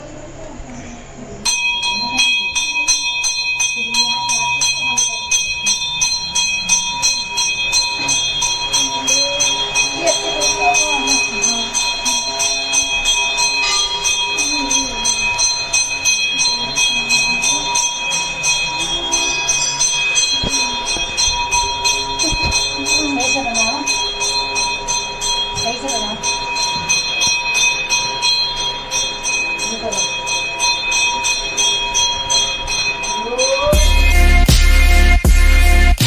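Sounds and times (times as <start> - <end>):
temple bells ringing fast: 1.4 - 36.0.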